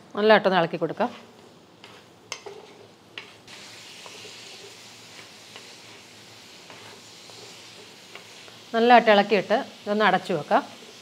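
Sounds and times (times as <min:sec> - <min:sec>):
vegetables sizzling in oil: 0:00.2 - 0:11.0.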